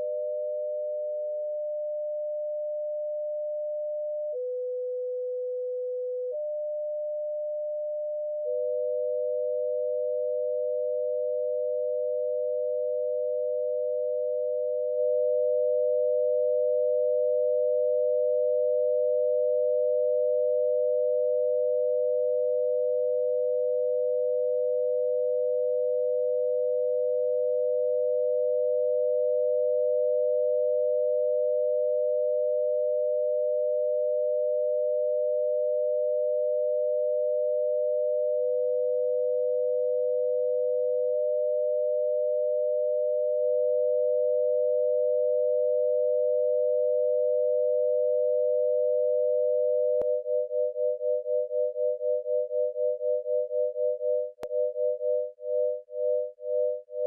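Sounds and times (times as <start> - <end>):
steady sine tones: 0.0 - 57.0.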